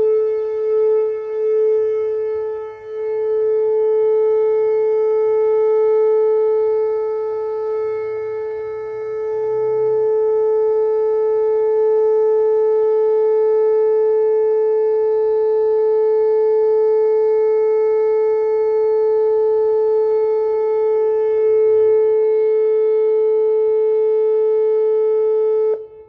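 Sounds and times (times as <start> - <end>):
electronic warning siren: 0.0 - 26.0.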